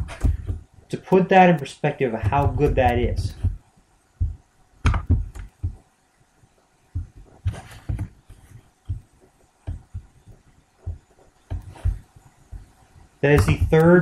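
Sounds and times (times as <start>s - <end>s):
soft low thumps: 0.0s - 0.8s, 2.2s - 6.0s, 6.9s - 14.0s.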